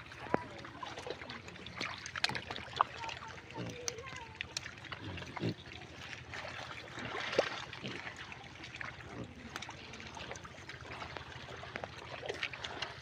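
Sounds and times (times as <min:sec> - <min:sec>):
mud squelching and splattering: 0:00.0 - 0:13.0.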